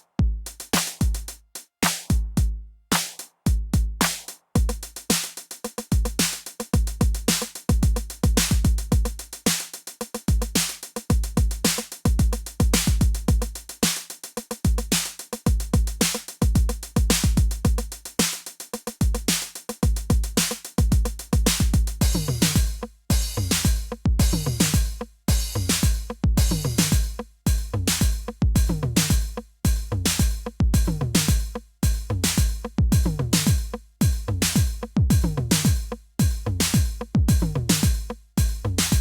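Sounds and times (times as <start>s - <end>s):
drum machine electronic groove: 0.0s - 39.0s.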